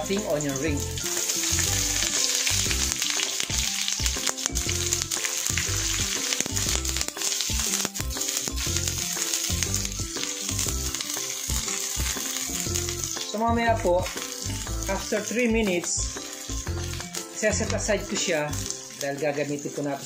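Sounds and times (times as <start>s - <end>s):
onion rings sizzling in oil: 0.0s - 20.0s.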